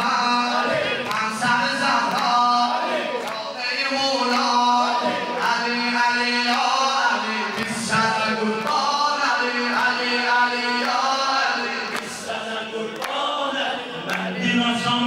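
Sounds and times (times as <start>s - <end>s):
men chanting through microphones: 0.0s - 15.0s.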